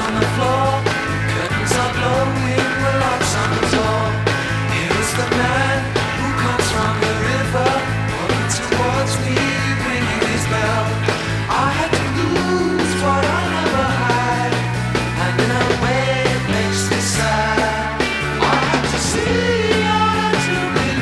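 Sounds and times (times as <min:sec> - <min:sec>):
bass guitar line: 0:00.0 - 0:21.0
drums with cymbal crashes: 0:00.0 - 0:21.0.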